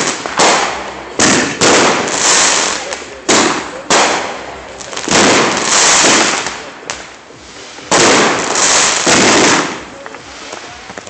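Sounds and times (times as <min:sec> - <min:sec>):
fireworks bangs: 0:00.0 - 0:11.0
fireworks hissing crackling tail: 0:00.0 - 0:11.0.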